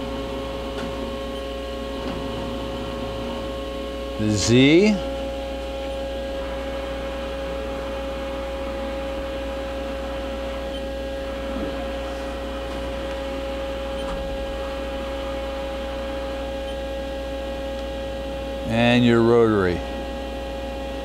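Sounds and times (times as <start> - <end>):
machine electric whine: 0.0 - 21.0.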